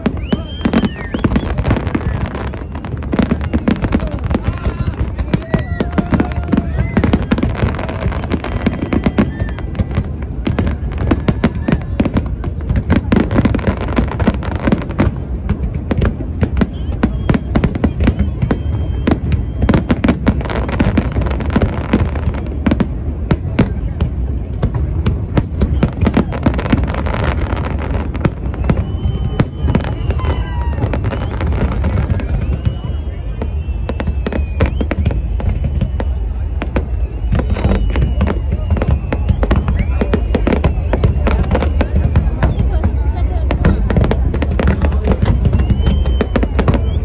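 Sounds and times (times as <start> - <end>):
fireworks booming and crackling: 0.0 - 47.0.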